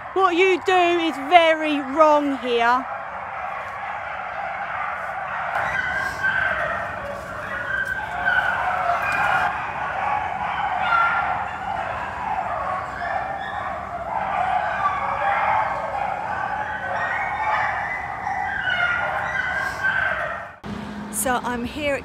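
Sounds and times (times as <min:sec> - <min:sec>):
dogs barking and howling: 0:00.0 - 0:20.6.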